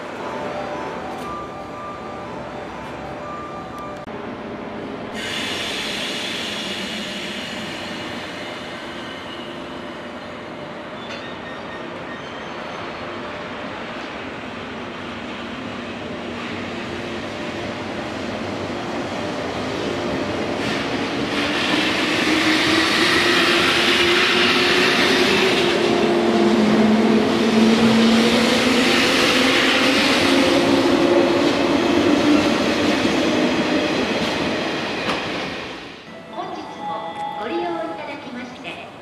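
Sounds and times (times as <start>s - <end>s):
train wheel and rail noise: 0.0s - 39.0s.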